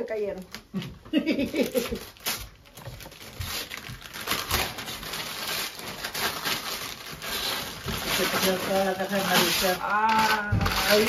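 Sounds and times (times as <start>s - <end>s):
wrapping paper crinkling: 0.2s - 11.0s.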